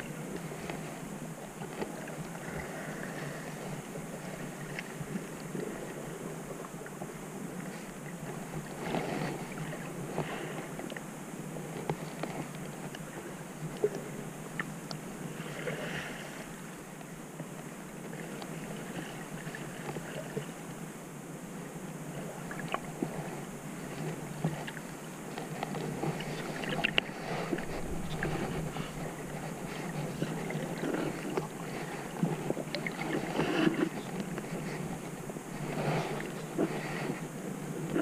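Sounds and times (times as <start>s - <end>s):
underwater water rushing: 0.0s - 17.0s, 17.6s - 20.9s, 21.6s - 38.0s
small underwater clicks and crackles: 0.0s - 20.9s, 21.8s - 38.0s.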